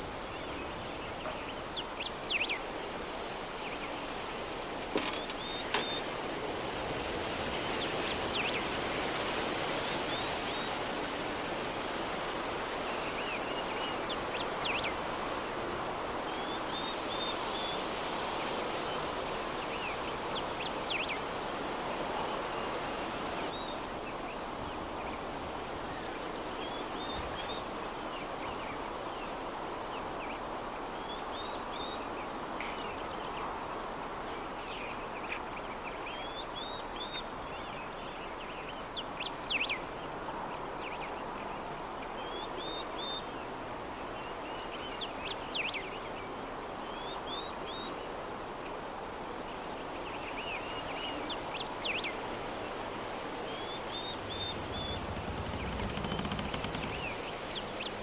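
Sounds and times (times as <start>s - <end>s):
soft wind hiss: 0.0s - 58.0s.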